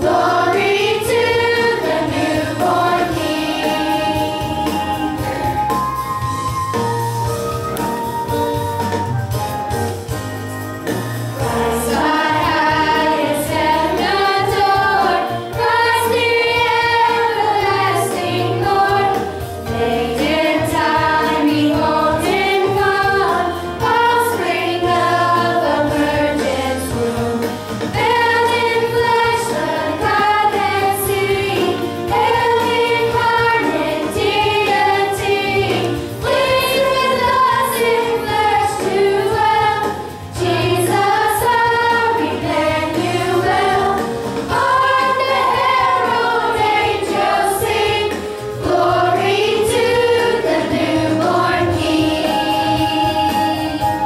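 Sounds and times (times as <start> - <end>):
young voices singing together: 0.0 - 6.0, 11.4 - 54.0
instrumental accompaniment: 0.0 - 54.0.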